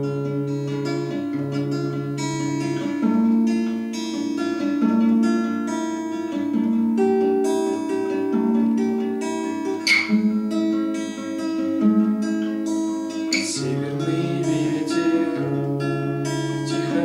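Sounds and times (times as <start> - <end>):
acoustic guitar picked melody: 0.0 - 17.0.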